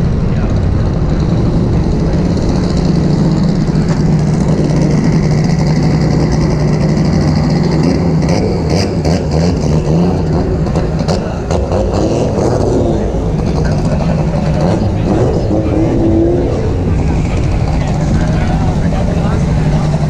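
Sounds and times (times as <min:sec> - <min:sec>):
car engine droning at low revs: 0:00.0 - 0:20.0.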